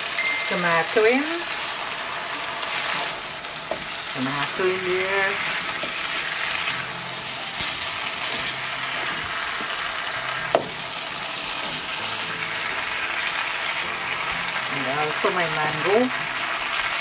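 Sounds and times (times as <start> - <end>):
fish and tomato sizzling in oil: 0.0 - 17.0.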